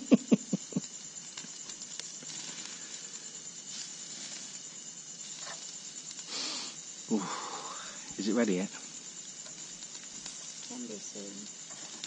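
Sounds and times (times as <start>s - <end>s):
insect trill: 0.0s - 12.0s
meat sizzling on barbecue: 0.0s - 12.0s.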